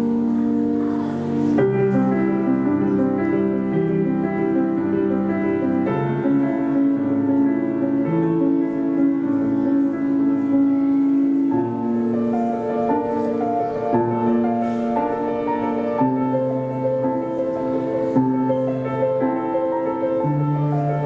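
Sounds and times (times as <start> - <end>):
slow gentle piano music: 0.0 - 21.0.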